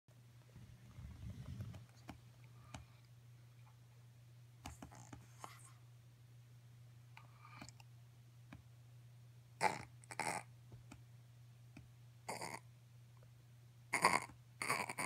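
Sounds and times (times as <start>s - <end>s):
low room hum: 0.1s - 15.0s.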